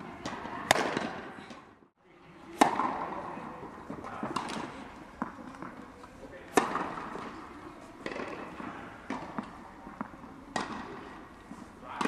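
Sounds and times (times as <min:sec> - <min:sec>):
tennis racket hitting ball: 0:00.2 - 0:01.6, 0:02.6 - 0:12.0.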